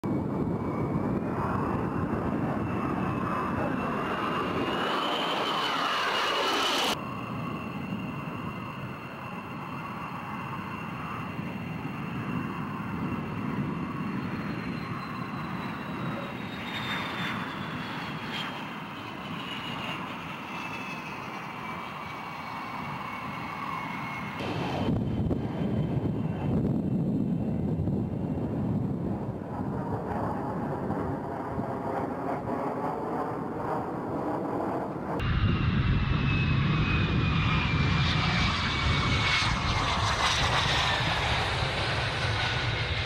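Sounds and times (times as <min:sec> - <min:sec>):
jet engine whine: 0:00.0 - 0:43.0.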